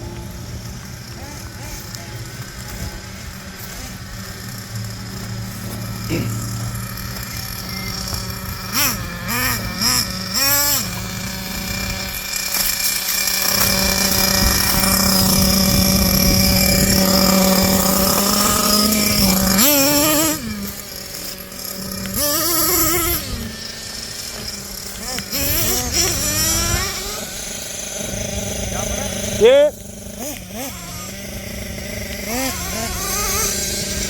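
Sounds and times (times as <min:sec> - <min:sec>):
small nitro engines revving: 0:00.0 - 0:34.0.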